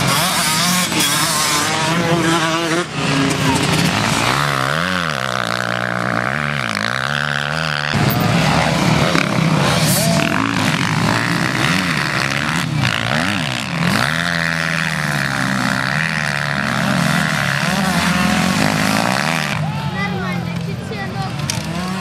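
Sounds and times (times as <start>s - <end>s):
motocross motorcycle engines revving: 0.0s - 22.0s.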